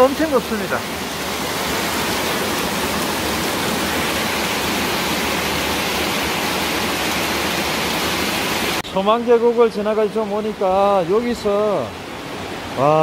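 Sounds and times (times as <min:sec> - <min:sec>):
water rushing over rock: 0:00.0 - 0:13.0.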